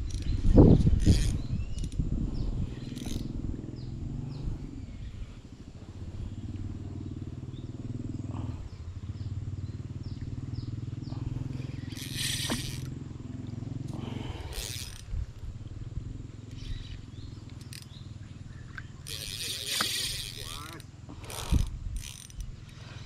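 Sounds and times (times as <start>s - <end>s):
small birds chirping: 0.0s - 23.0s
small engine humming: 0.0s - 23.0s.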